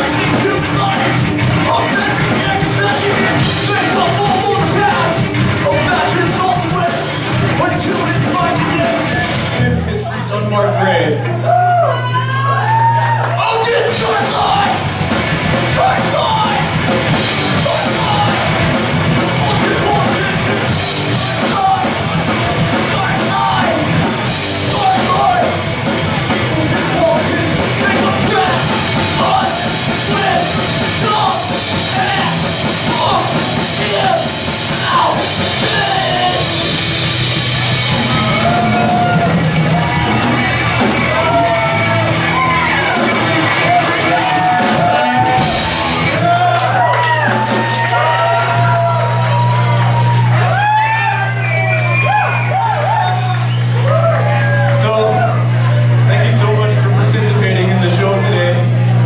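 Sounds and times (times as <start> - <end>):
distorted electric guitars: 0.0 - 10.2, 11.2 - 59.0
drums: 0.0 - 10.2, 11.2 - 59.0
shouted lead vocal: 0.0 - 49.7
bass guitar: 0.0 - 59.0.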